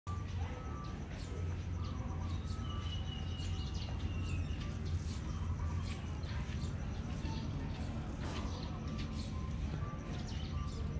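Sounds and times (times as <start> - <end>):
small birds chirping: 0.1 - 10.9
steady low hum: 0.1 - 10.9.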